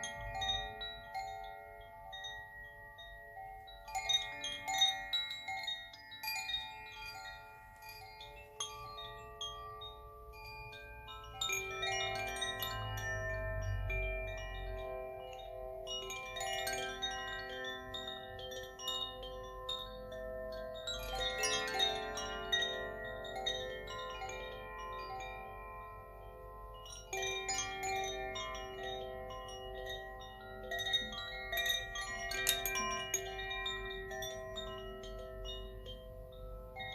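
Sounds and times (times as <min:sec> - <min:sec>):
metal chimes tinkling: 0:00.0 - 0:36.9.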